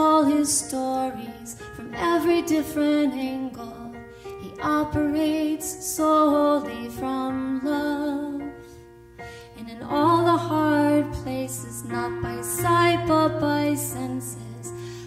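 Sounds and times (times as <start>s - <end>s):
woman singing slow melody: 0.0s - 8.7s, 9.5s - 15.0s.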